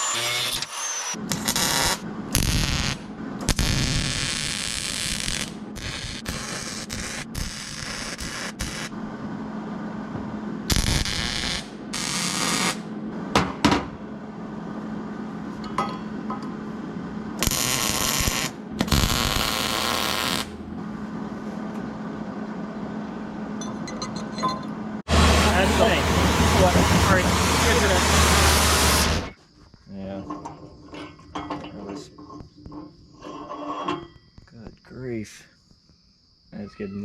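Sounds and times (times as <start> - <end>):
steady low hum: 1.2 - 35.9.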